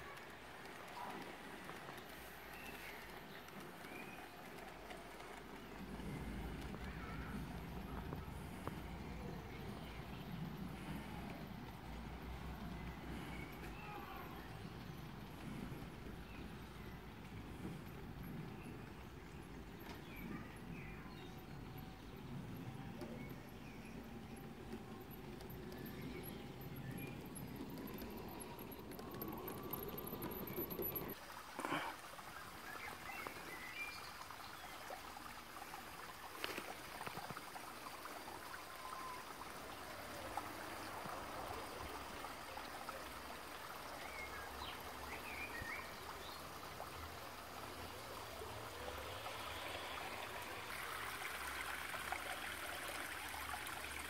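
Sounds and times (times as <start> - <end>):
model train rumbling on track: 0.0 - 31.4, 36.8 - 54.0
water trickling in stream: 0.0 - 54.0.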